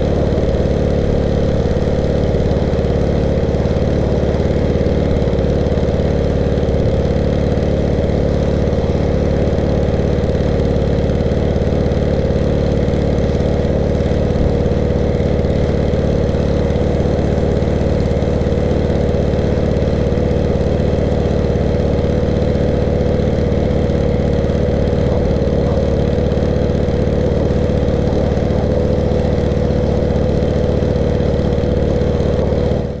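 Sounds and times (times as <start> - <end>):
pressure washer engine drone: 0.0 - 33.0.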